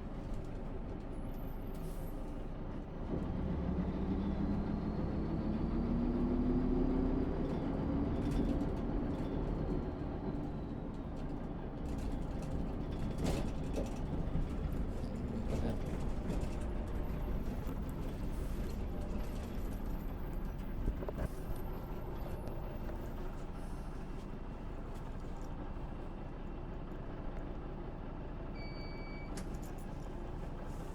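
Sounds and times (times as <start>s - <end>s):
bus diesel engine rumbling: 0.0s - 30.9s.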